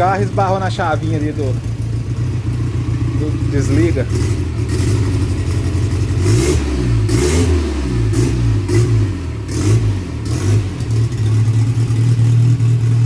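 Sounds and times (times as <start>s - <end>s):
turbocharged engine revving: 0.0s - 13.0s.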